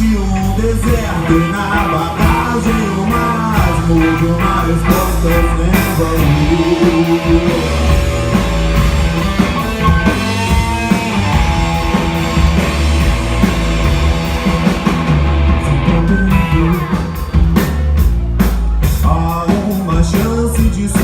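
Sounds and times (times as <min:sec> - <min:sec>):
rock band playing live: 0:00.0 - 0:21.0.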